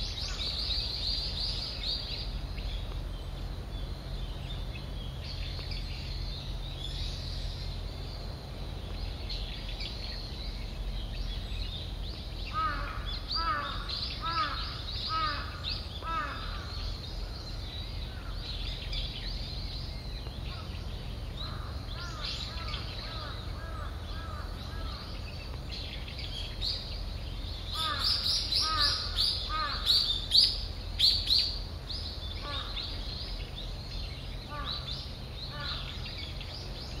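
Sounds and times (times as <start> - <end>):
low steady rumble: 0.0 - 37.0
wild birds calling: 0.0 - 37.0.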